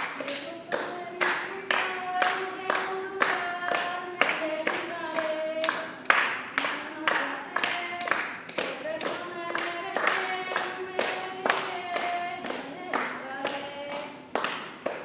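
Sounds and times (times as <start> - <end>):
people singing a melody: 0.0 - 6.0, 6.6 - 14.3
group clapping a steady beat: 0.0 - 15.0.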